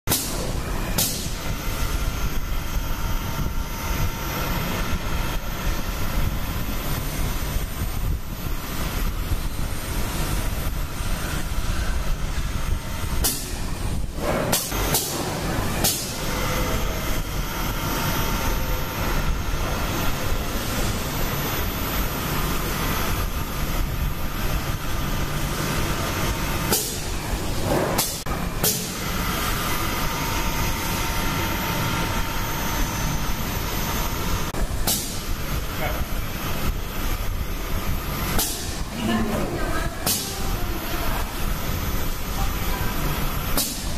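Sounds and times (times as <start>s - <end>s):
dispensing machine running: 0.1s - 43.9s.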